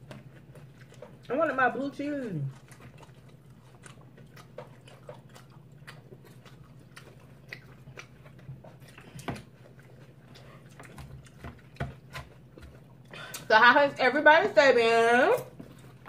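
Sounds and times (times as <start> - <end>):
chewing salad with crunches: 0.0 - 13.6, 15.3 - 16.0.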